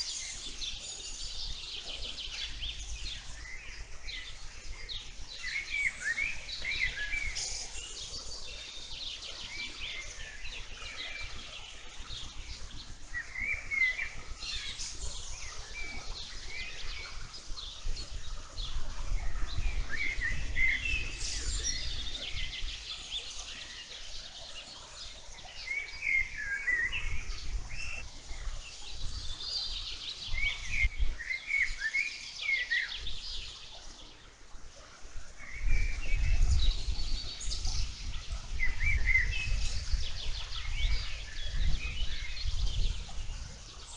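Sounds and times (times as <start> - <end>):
birds singing and chirping: 0.0 - 43.9.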